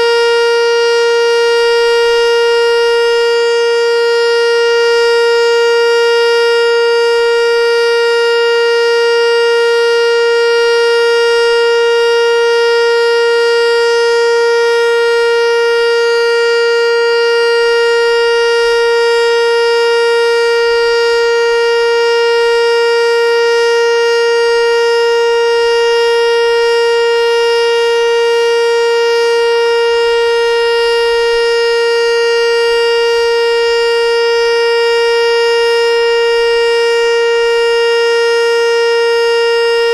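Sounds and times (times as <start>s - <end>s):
steady warning siren: 0.0s - 39.9s.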